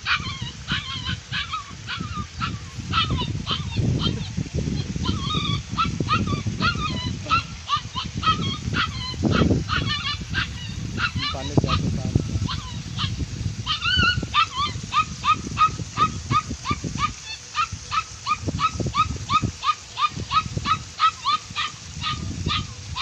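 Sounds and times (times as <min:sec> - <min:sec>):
animal calling in high calls: 0:00.0 - 0:04.3, 0:05.0 - 0:23.0.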